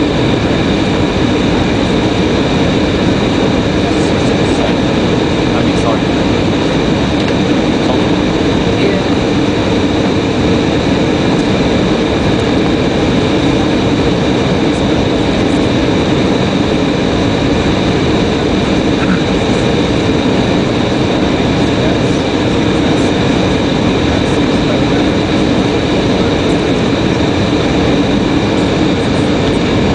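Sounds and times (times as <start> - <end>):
constant whine: 0.0 - 29.9
jet engine roaring: 0.0 - 29.9
rushing airflow: 0.0 - 29.9.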